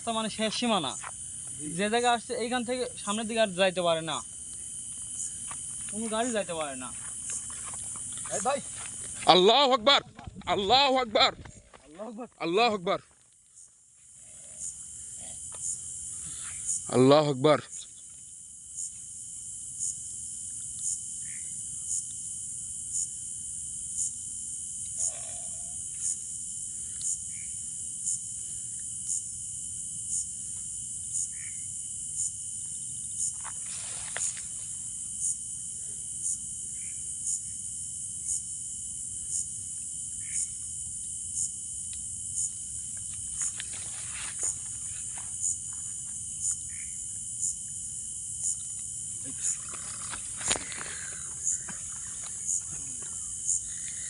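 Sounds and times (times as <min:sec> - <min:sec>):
crickets and insects trilling: 0:00.0 - 0:54.0.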